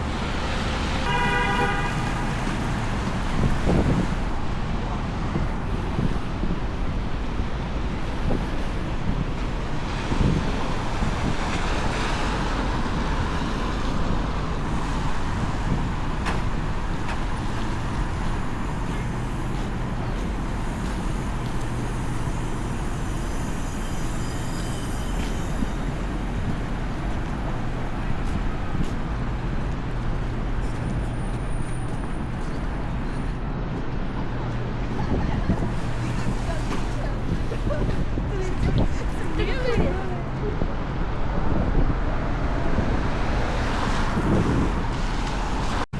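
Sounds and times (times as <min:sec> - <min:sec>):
street traffic rumble: 0:00.0 - 0:45.9.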